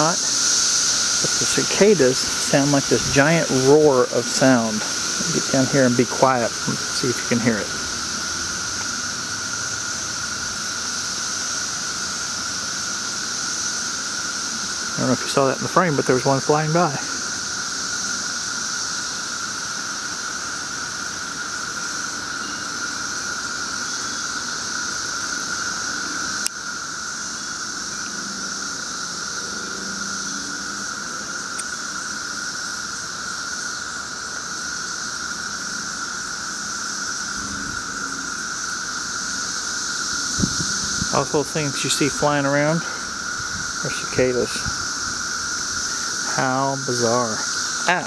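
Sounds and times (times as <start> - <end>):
cicadas chorus: 0.0 - 48.0.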